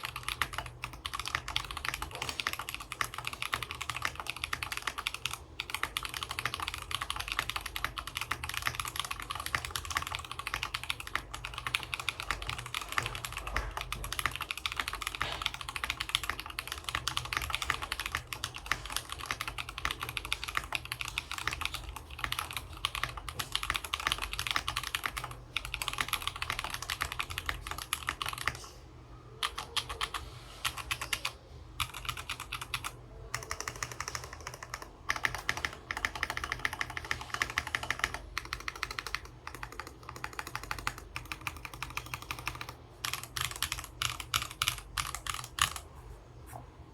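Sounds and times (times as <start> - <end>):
mechanical keyboard typing: 0.0 - 28.8, 29.4 - 45.9.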